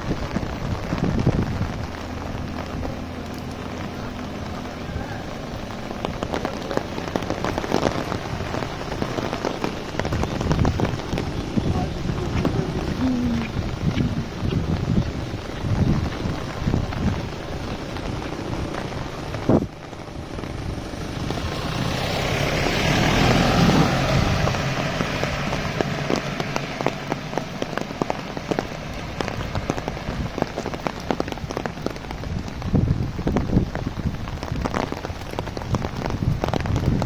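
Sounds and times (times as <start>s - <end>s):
broad rush of noise: 0.0s - 37.0s
heavy rain falling: 0.0s - 37.0s
raindrops tapping on umbrella: 0.0s - 37.0s.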